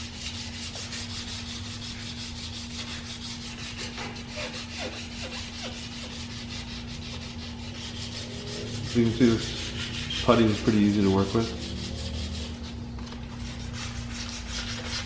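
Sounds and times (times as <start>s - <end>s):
hand-sanding with sandpaper: 0.0s - 15.0s.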